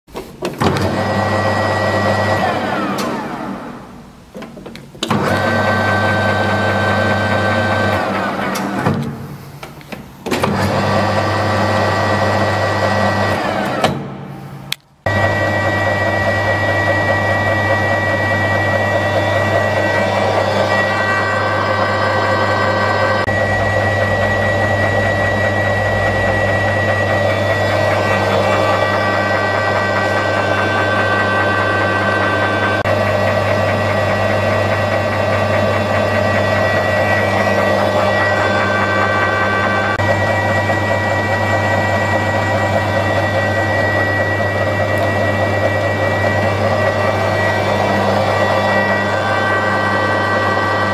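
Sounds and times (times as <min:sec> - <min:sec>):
machine hum with high whine: 0:00.2 - 0:50.9.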